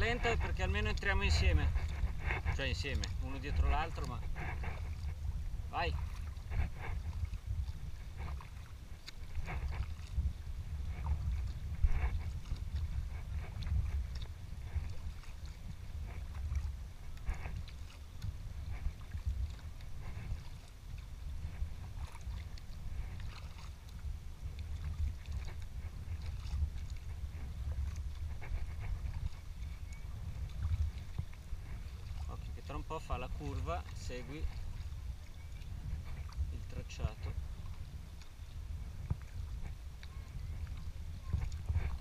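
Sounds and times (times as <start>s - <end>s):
paddle water splashes: 0.0s - 42.0s.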